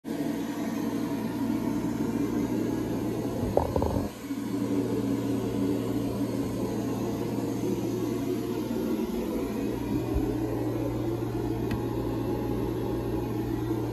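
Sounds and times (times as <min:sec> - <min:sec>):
low machine hum: 0:00.1 - 0:13.9.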